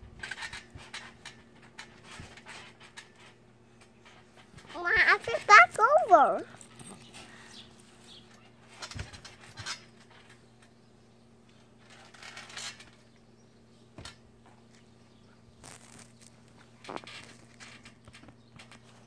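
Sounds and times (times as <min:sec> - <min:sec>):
soft knocks and rustles on trampoline: 0:00.0 - 0:05.5, 0:06.2 - 0:19.0.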